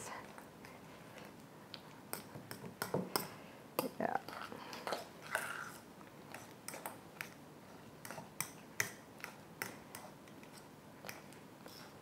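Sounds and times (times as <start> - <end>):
fork mashing cheese in metal bowl: 2.0 - 12.0.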